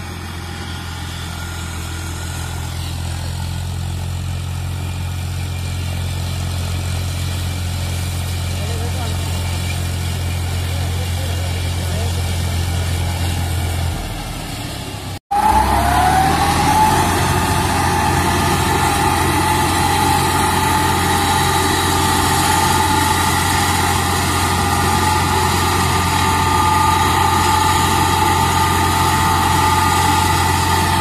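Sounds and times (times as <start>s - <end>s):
mulcher high whine: 0.0s - 31.0s
tractor diesel engine drone: 0.0s - 31.0s.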